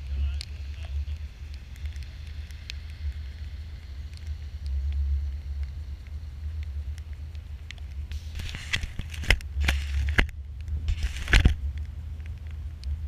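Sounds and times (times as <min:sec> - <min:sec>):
fireworks crackling pops: 0:00.0 - 0:13.0
steady low rumble: 0:00.0 - 0:13.0.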